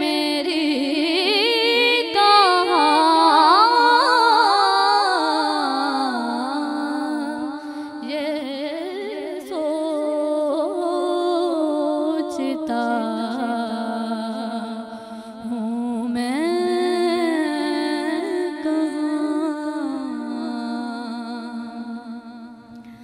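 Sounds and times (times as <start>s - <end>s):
woman singing into a microphone: 0.0s - 23.0s.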